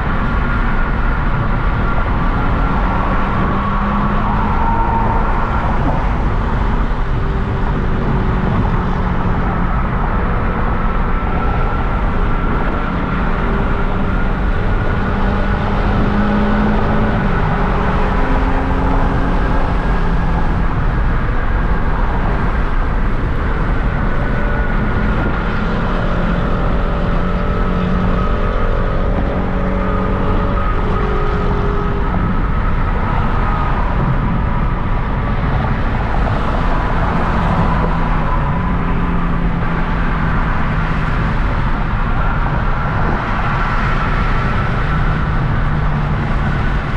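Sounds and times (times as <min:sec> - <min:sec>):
car engine cruising: 0:00.0 - 0:46.9
road and tyre rumble: 0:00.0 - 0:46.9.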